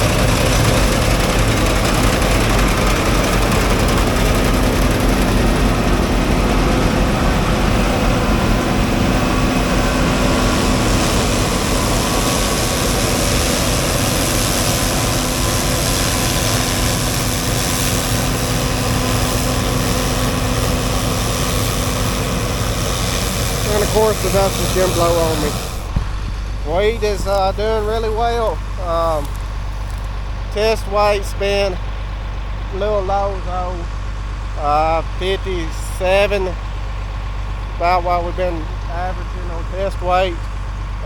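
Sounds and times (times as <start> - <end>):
harvester diesel engine running: 0.0 - 41.0.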